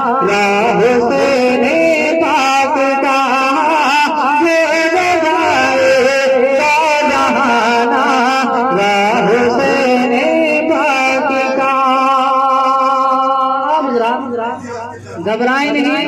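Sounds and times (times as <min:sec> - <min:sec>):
man singing chant-like: 0:00.0 - 0:16.0.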